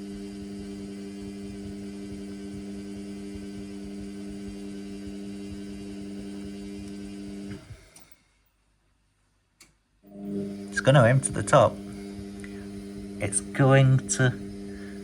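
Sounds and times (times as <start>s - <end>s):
washing machine humming: 0.0s - 8.0s, 10.0s - 15.0s.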